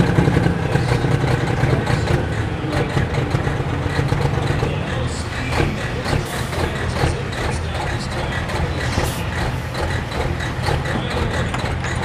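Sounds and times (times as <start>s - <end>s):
diesel engine rumbling at low revs: 0.0s - 12.0s.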